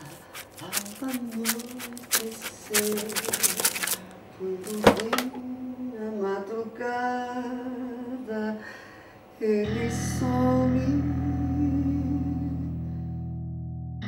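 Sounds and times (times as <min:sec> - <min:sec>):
person singing wordless melody: 0:00.0 - 0:08.7, 0:09.4 - 0:13.2.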